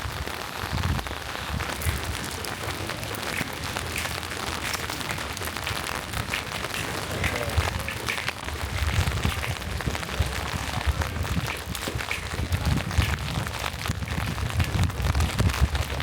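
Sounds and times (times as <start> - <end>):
low rumbling gusts: 0.0 - 16.0
rain pattering: 0.0 - 16.0.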